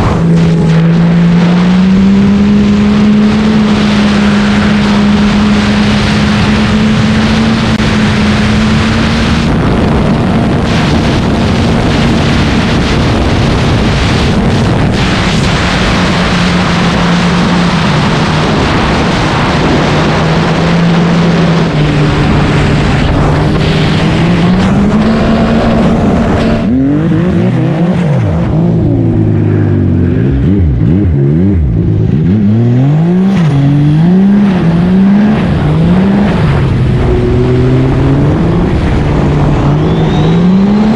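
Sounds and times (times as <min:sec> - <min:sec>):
snowmobile engine: 0:00.0 - 0:40.9
wind rush on microphone: 0:00.0 - 0:40.9.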